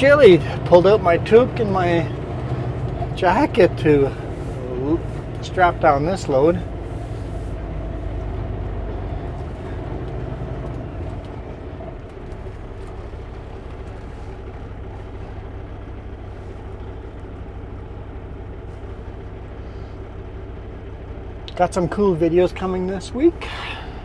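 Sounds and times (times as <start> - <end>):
road noise: 0.0 - 24.0
truck diesel engine running: 0.0 - 24.0.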